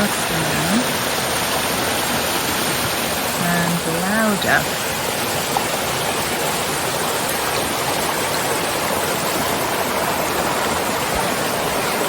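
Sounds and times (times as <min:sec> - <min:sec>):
babbling brook: 0:00.0 - 0:12.0.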